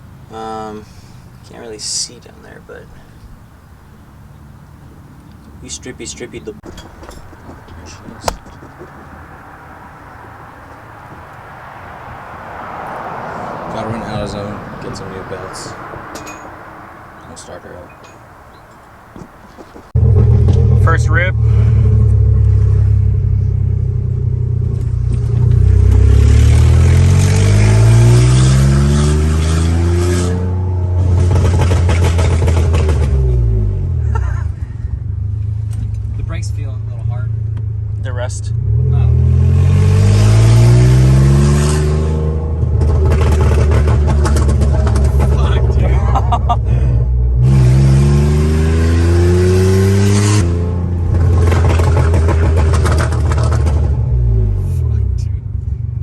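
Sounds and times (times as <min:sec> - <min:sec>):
car engine accelerating: 0:03.7 - 0:56.0.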